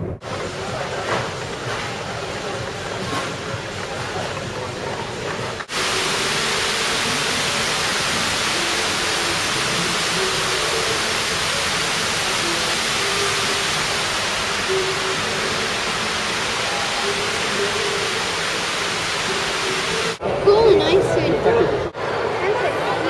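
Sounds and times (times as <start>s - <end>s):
rushing water: 0.3s - 20.8s.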